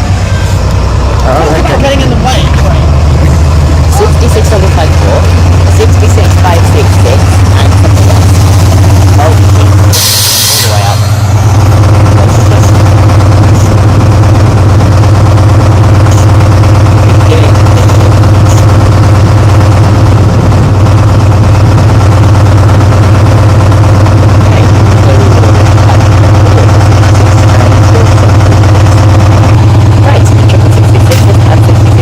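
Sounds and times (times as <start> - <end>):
diesel locomotive engines idling: 0.0 - 32.0.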